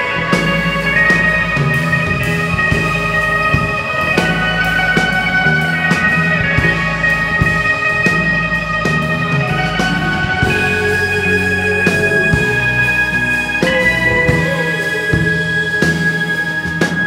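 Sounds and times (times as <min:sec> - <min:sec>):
drum hits: 0:00.0 - 0:16.2
rock band playing: 0:00.0 - 0:17.0.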